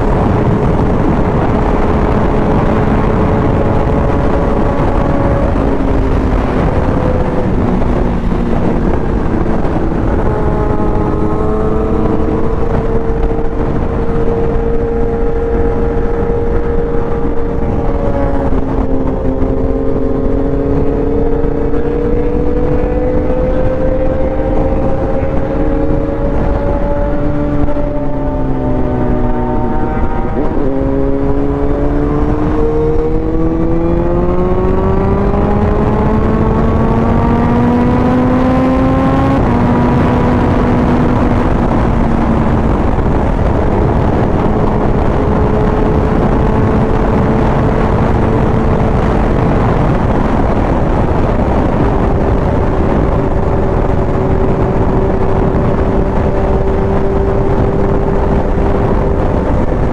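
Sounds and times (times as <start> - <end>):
motorcycle engine accelerating: 0.0 - 59.9
wind and road rush: 0.0 - 59.9.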